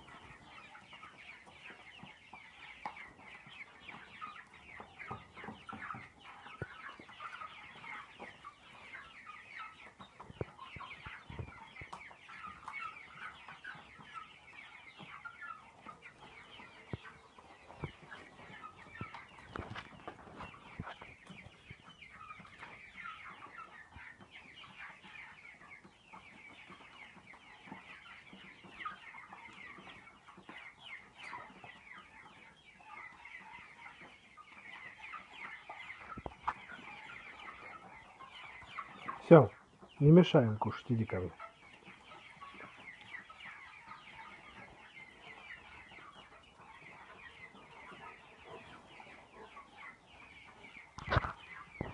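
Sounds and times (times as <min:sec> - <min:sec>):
chicks peeping: 0:00.0 - 0:51.9.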